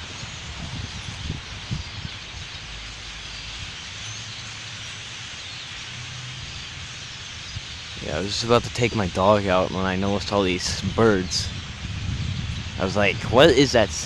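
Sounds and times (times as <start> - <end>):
flock of birds chattering: 0.0 - 14.0.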